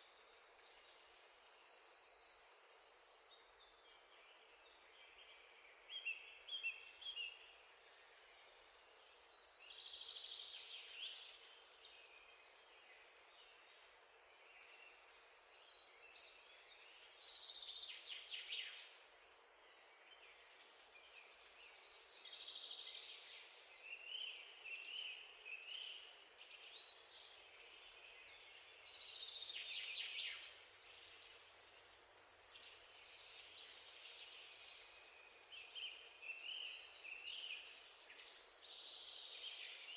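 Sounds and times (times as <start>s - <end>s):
faint birds chirping: 0.0s - 39.9s
low steady hiss: 0.0s - 39.9s.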